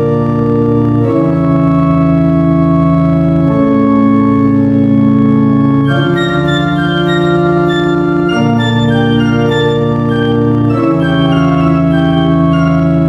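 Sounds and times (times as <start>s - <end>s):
organ-like keyboard chords: 0.0s - 13.0s.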